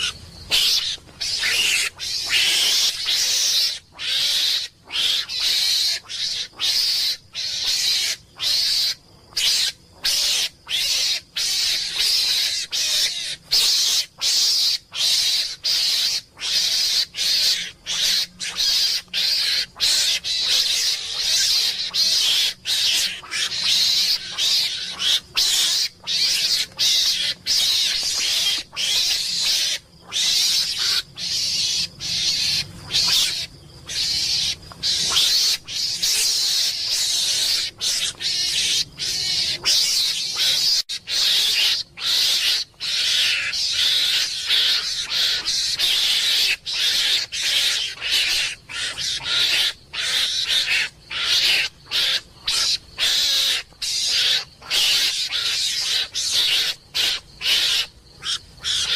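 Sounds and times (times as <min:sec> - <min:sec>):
mongoose hissing calls: 0:00.0 - 0:58.9.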